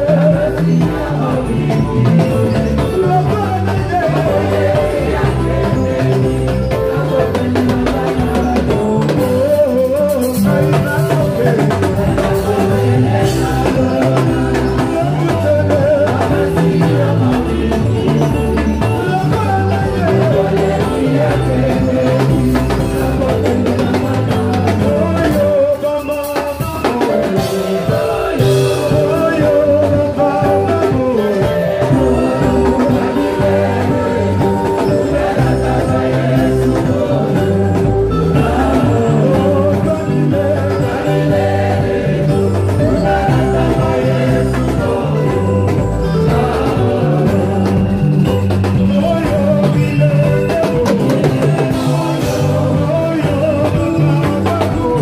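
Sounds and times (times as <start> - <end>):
band playing worship music: 0.0 - 55.0
bass: 0.0 - 55.0
drum kit: 0.0 - 55.0
singing: 0.0 - 55.0.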